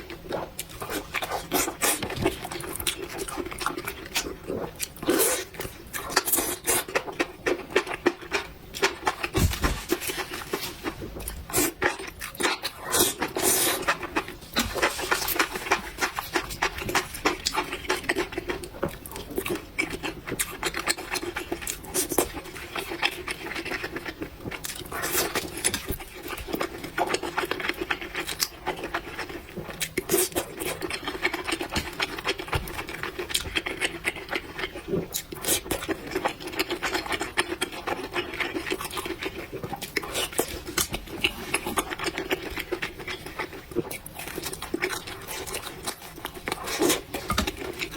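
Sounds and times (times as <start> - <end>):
slurping and chewing noodles: 0.0 - 47.9.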